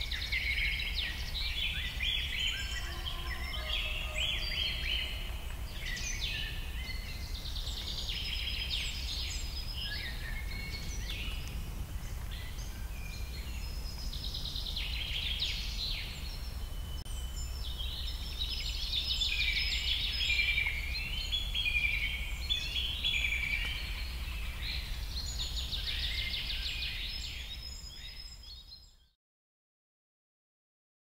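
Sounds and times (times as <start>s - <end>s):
small birds chirping and trilling: 0.0s - 29.2s.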